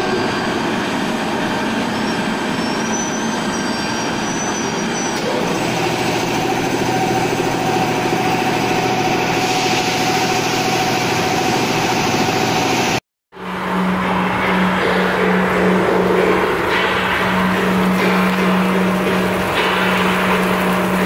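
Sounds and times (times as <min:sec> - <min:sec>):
milling machine whine: 0:00.0 - 0:21.0
workshop machine noise: 0:00.0 - 0:21.0.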